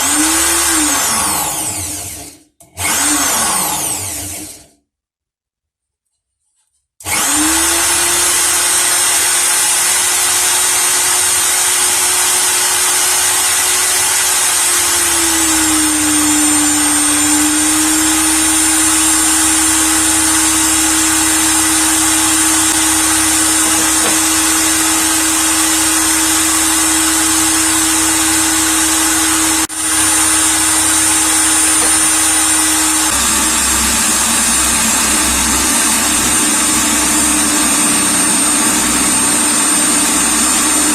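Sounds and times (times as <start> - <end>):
electric drill motor whining: 0.0 - 4.7, 7.0 - 40.9.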